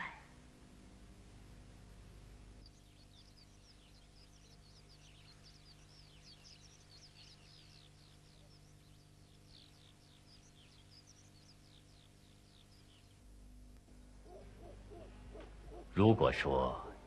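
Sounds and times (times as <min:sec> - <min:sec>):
steady low hum: 0:00.0 - 0:17.0
small birds twittering: 0:02.4 - 0:17.0.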